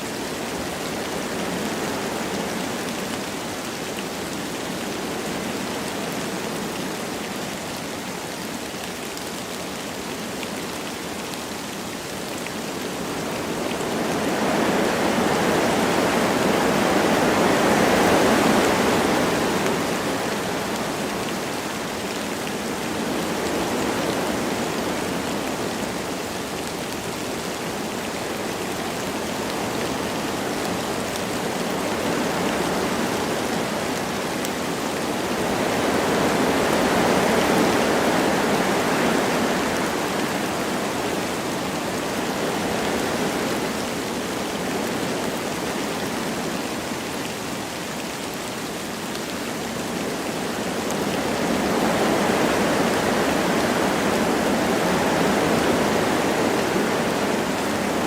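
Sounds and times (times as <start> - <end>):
light rain falling: 0.0 - 58.0
wind gusting through trees: 0.0 - 58.0.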